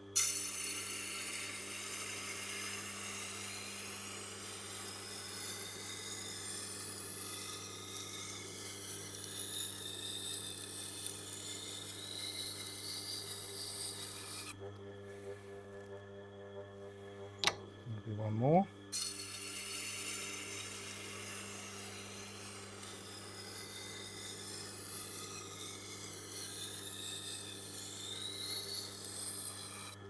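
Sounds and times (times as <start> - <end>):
grinder motor hum: 0.0 - 30.0
knife grinding on wheel: 0.2 - 15.8, 18.9 - 30.0.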